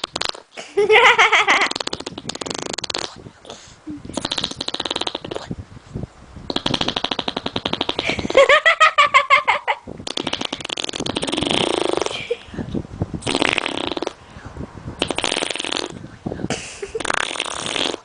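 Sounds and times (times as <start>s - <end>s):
raspberries blown on skin: 0.0s - 5.6s, 6.5s - 8.7s, 9.7s - 14.2s, 15.0s - 18.0s.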